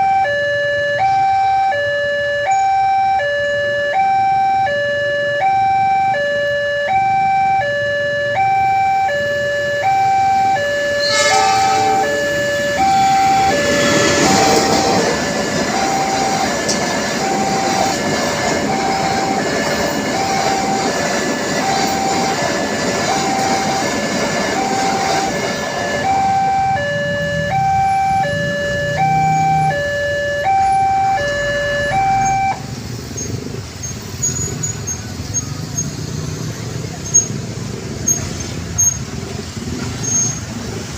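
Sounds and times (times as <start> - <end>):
two-tone crossing alarm: 0.0 - 37.4
approaching train: 0.0 - 40.9.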